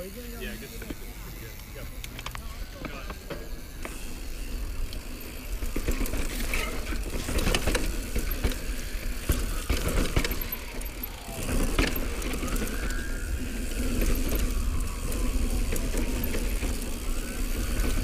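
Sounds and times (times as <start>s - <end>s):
bike frame and chain rattling: 0.0s - 18.0s
tyres on loose dirt: 0.4s - 18.0s.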